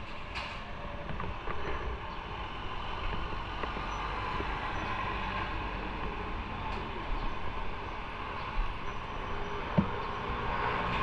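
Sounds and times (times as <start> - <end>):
motorcycle engine and road rumble: 0.0 - 11.0.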